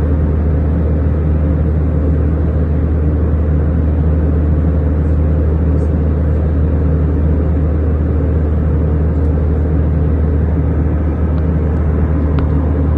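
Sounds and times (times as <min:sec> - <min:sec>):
airliner cabin drone: 0:00.0 - 0:12.9.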